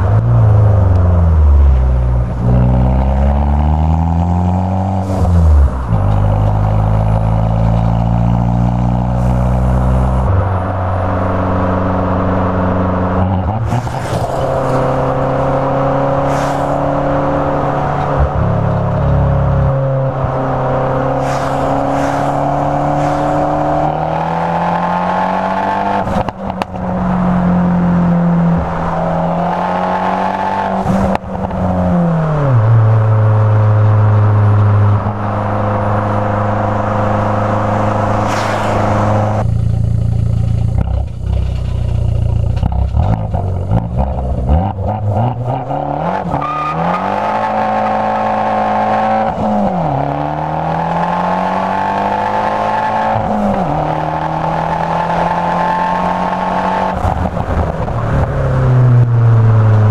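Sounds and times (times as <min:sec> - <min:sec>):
car engine during upshifts: 0:00.0 - 0:59.9.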